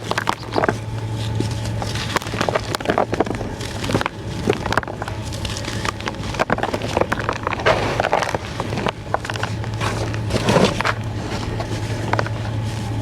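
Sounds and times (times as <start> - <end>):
sand crunching and crackling: 0.0 - 13.0
steady low hum: 0.0 - 13.0.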